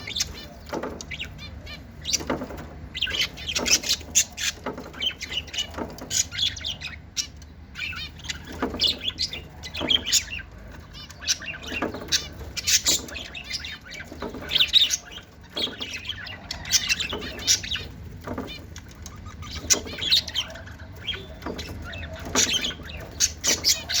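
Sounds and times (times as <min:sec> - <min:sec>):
lovebirds chirping: 0:00.0 - 0:24.0.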